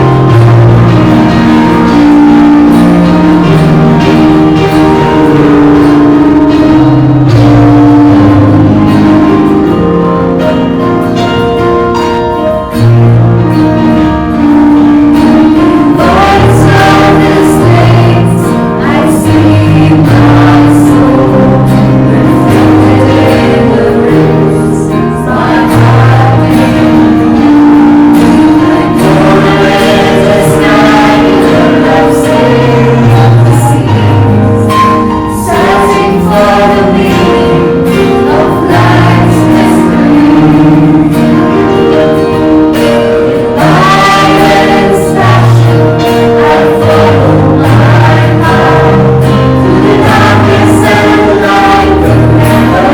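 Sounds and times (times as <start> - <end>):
choir singing over held chords: 0.0 - 52.9.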